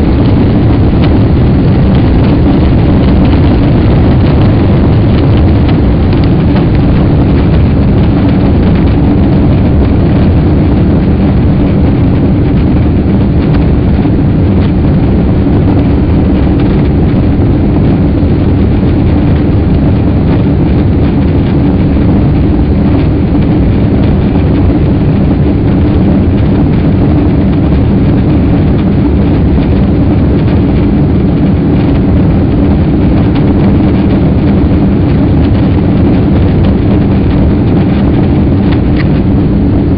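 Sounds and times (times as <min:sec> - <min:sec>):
jet engine and airflow noise: 0:00.0 - 0:39.9
low cabin hum: 0:00.0 - 0:39.9.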